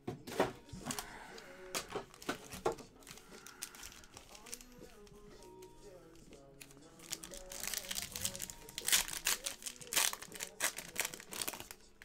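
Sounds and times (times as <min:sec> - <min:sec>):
foil wrappers crinkling: 0:00.8 - 0:12.0.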